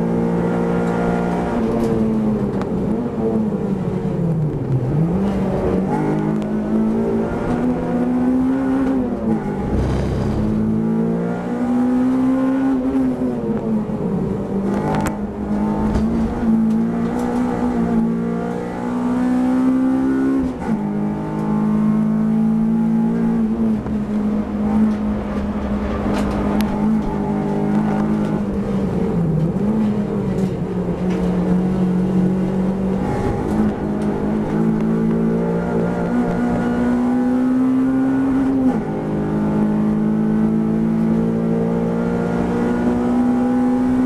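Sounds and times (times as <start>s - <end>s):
race car engine from inside: 0.0s - 44.0s.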